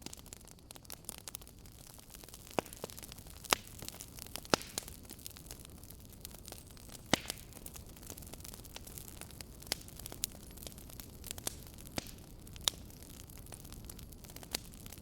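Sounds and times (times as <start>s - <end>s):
fire hissing: 0.0s - 15.0s
fire popping and crackling: 0.0s - 15.0s.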